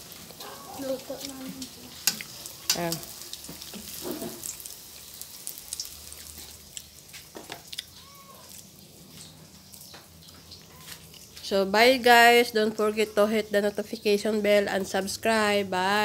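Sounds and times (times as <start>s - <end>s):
food frying in hot oil: 0.0s - 16.0s.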